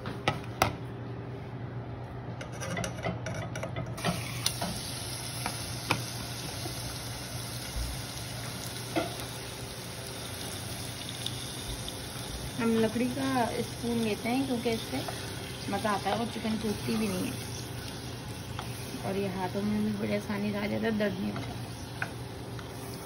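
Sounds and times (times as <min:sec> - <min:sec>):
chicken sizzling in oil: 0:04.0 - 0:23.0.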